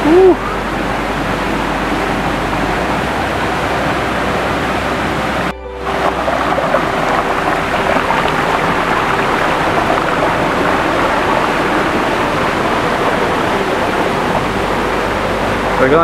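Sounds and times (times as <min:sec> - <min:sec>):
small waterfall rushing: 0:00.0 - 0:16.0.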